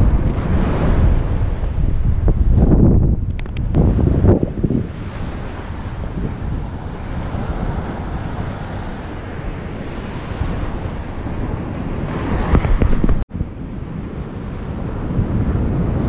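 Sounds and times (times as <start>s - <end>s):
ocean surf breaking: 0.0s - 2.9s, 3.7s - 16.0s
wind buffeting microphone: 0.0s - 16.0s.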